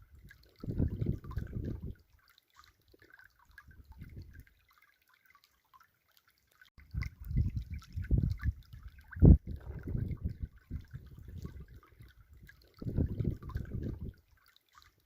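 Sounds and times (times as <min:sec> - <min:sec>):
river water trickling: 0:00.0 - 0:15.0.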